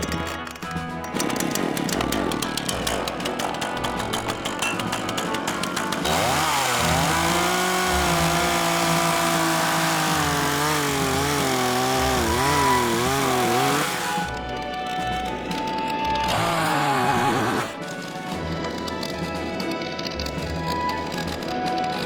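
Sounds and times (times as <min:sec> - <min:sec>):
small two-stroke engine running: 0:00.0 - 0:22.0.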